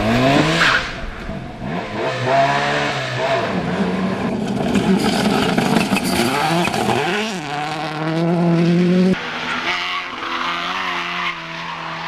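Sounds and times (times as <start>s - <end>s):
rally car engine revving: 0.0s - 12.0s
tyre and road noise: 0.0s - 12.0s.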